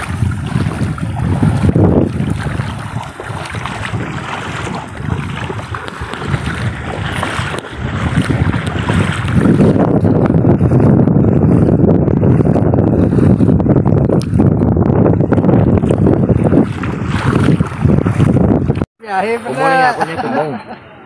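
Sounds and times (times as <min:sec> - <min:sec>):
feet sloshing through water: 0:00.0 - 0:13.6, 0:15.1 - 0:18.9
wind buffeting microphone: 0:00.0 - 0:18.9.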